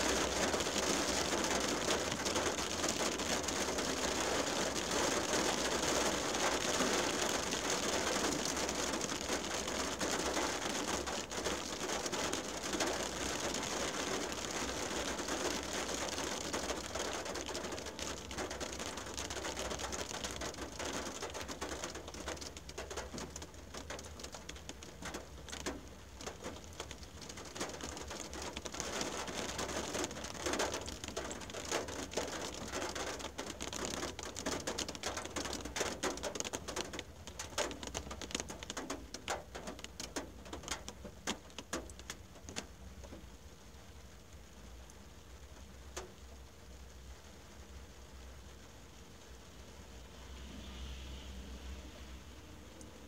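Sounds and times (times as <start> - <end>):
rain on car windshield: 0.0 - 53.0.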